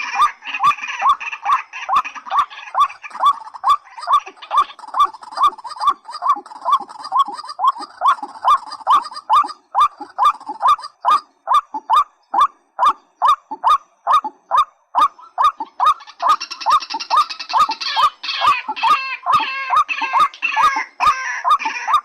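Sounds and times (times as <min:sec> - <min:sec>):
waterbird calling: 0:00.0 - 0:22.0
harsh high-pitched bird call: 0:01.9 - 0:22.0.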